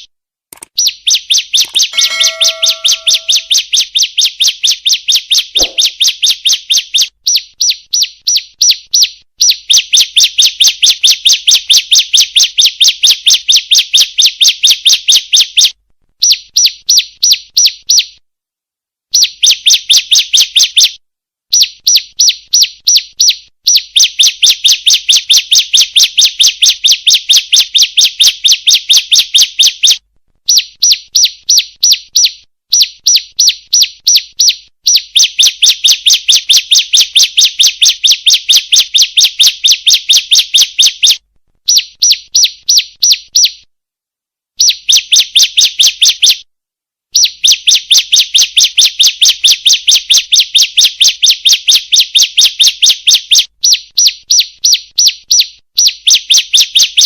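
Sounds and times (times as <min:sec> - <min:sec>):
bird sharp high chirps: 0:00.7 - 0:18.1, 0:21.5 - 0:43.7, 0:44.6 - 0:46.4, 0:47.2 - 0:57.0.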